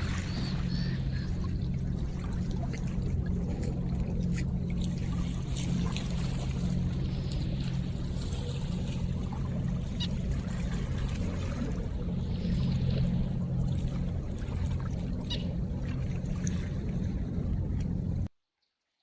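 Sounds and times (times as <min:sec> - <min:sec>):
low hum: 0:00.0 - 0:18.3
river water trickling: 0:00.0 - 0:18.3.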